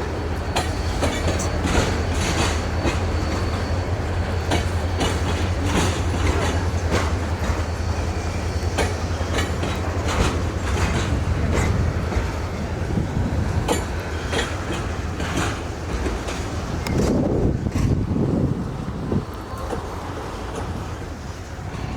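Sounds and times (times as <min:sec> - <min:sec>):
train rumbling: 0:00.0 - 0:21.9
train wheels clicking over rail joints: 0:00.0 - 0:21.9.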